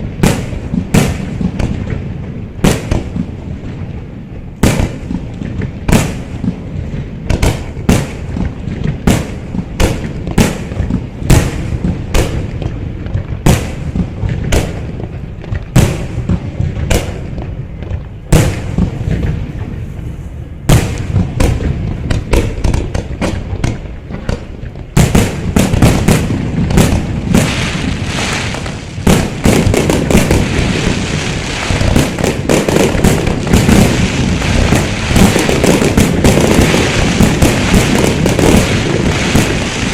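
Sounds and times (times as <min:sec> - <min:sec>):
fireworks banging: 0:00.0 - 0:39.9
fireworks crackling barrage: 0:00.0 - 0:39.9.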